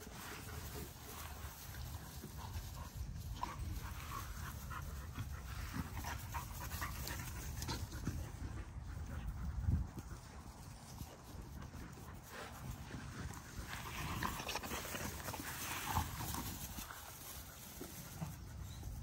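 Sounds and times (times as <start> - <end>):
puppies panting: 0.0 - 19.0
puppies scuffling on grass: 0.0 - 19.0.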